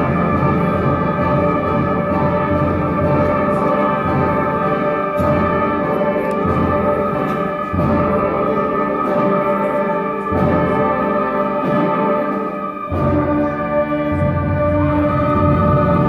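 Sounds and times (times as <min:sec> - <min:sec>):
concert band playing chords: 0:00.0 - 0:16.0.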